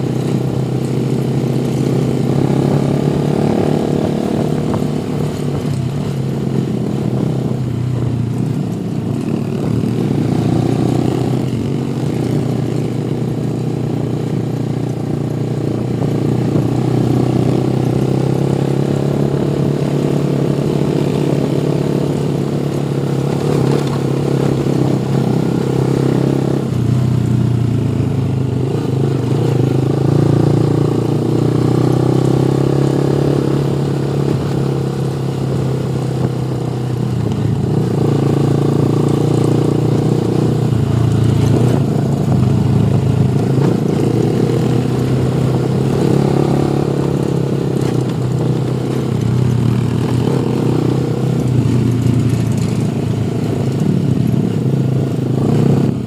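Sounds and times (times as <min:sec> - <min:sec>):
motorcycle engine revving: 0:00.0 - 0:56.0
road and wind noise: 0:00.0 - 0:56.0.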